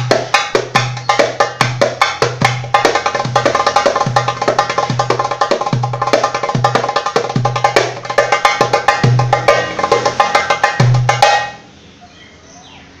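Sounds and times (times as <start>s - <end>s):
goblet drum playing: 0.0s - 11.7s.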